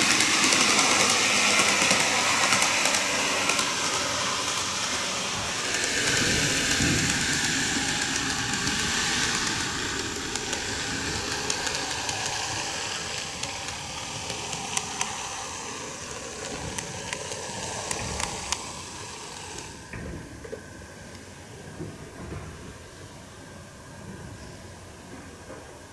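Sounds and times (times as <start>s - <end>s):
wheels clicking over rail joints: 0.0s - 22.7s
model train running hiss: 0.0s - 25.9s.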